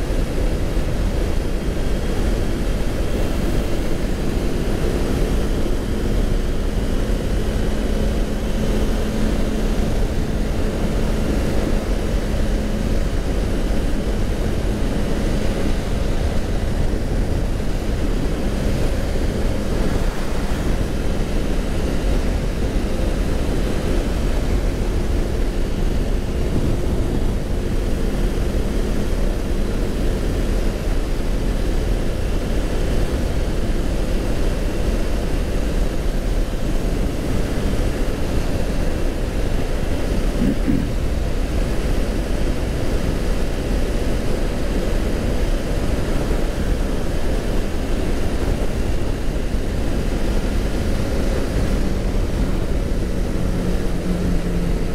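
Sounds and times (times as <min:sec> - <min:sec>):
motorcycle engine droning: 0:00.0 - 0:54.9
wind rushing over microphone: 0:00.0 - 0:54.9.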